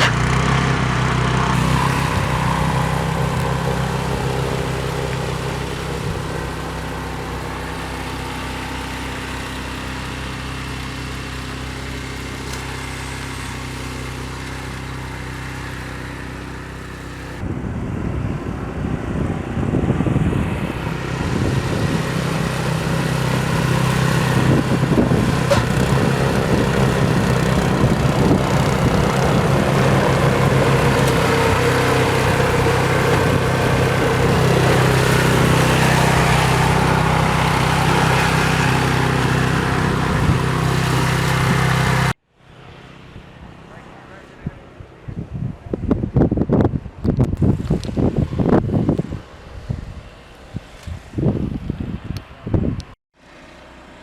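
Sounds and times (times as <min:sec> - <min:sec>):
engine running: 0:00.0 - 0:45.8, 0:53.2 - 0:54.0.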